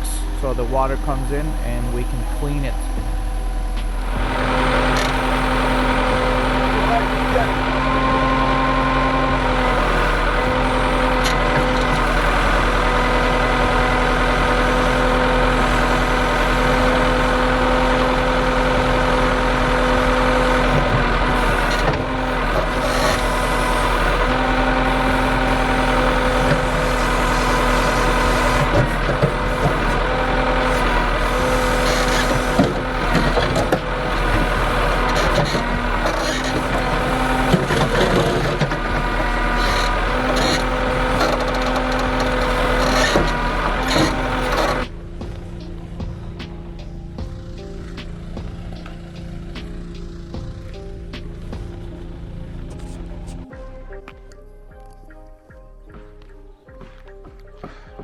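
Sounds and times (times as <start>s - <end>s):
heavy vehicle engine idling: 0.0s - 54.0s.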